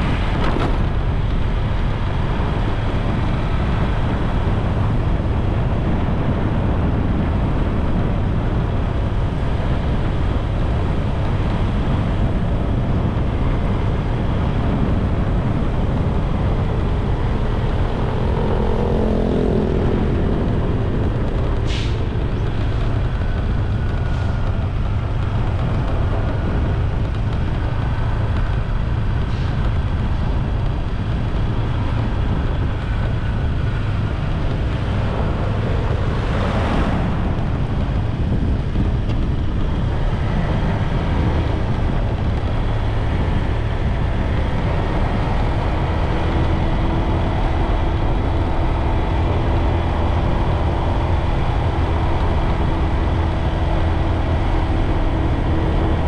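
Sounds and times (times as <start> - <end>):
road noise: 0.0 - 56.0
wind rushing: 0.0 - 56.0.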